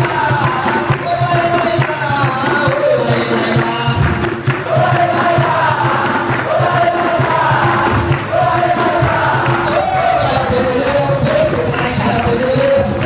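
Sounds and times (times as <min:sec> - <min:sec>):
group singing in chorus: 0:00.0 - 0:13.0
tambourine rhythm: 0:00.0 - 0:13.0.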